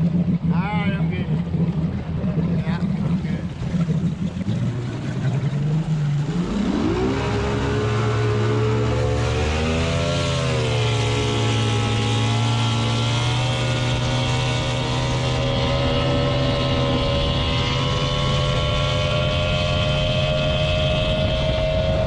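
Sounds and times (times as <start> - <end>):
outboard motor accelerating: 0.0 - 22.0.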